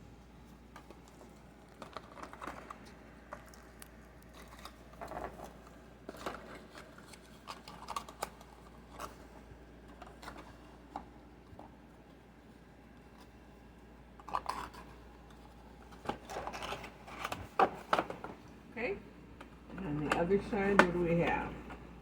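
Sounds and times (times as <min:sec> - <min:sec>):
plastic packaging clicks and rustles: 0:00.4 - 0:18.6.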